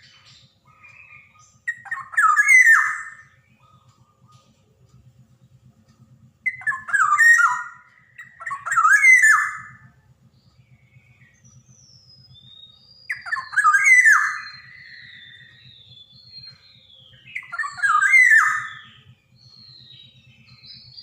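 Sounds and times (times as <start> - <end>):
bird harsh calls: 0.0 - 4.6, 6.4 - 21.0.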